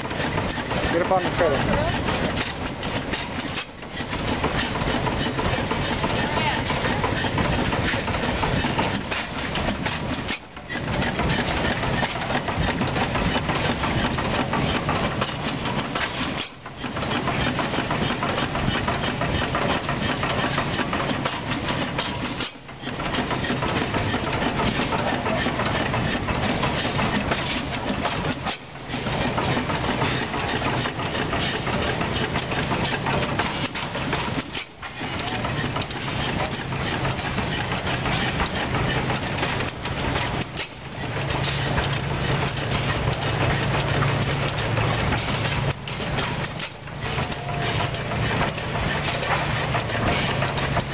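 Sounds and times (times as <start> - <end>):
old gas engines chugging: 0.0 - 50.9.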